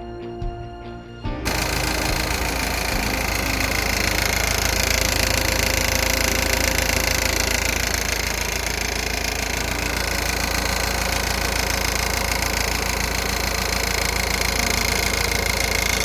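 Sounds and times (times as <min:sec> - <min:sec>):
diesel engine running: 0:01.4 - 0:16.0
belt pulley rattle: 0:01.5 - 0:16.0.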